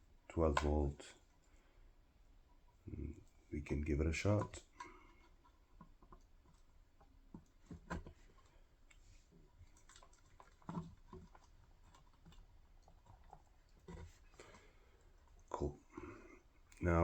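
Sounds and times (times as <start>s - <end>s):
faint clicks and taps: 0.4s - 1.6s, 3.0s - 16.9s.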